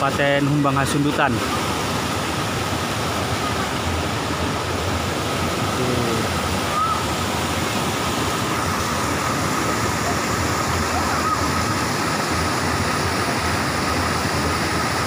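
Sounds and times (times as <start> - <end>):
water rushing over boulders: 0.0 - 15.0
waterfall roaring: 0.0 - 15.0.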